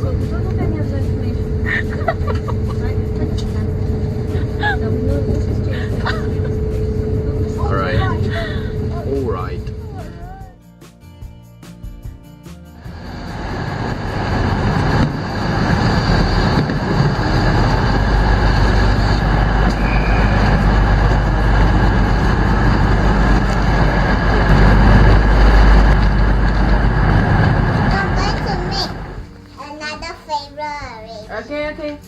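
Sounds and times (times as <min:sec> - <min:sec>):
train rushing on rails: 0:00.0 - 0:10.4, 0:12.8 - 0:29.3
deep hum: 0:00.0 - 0:10.5, 0:12.8 - 0:29.5.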